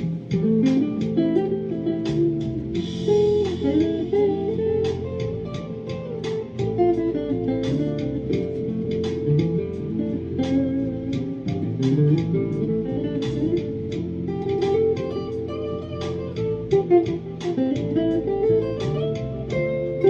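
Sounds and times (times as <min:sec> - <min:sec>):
electric guitar picking: 0:00.0 - 0:20.0.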